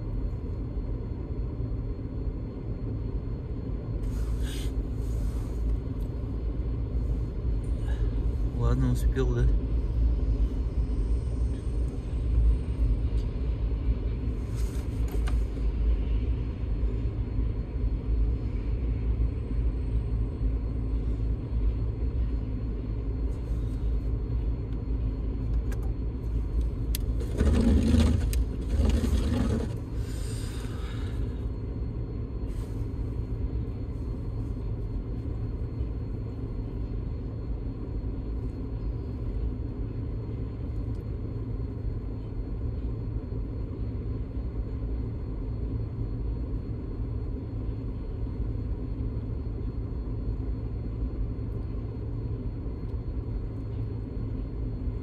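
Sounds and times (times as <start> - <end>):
low vehicle rumble in car cabin: 0.0 - 55.0.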